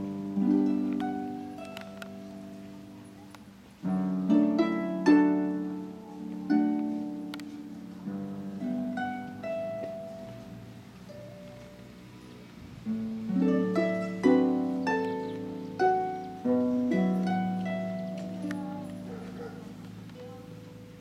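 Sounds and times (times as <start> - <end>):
harp playing chords and notes: 0.0 - 21.0.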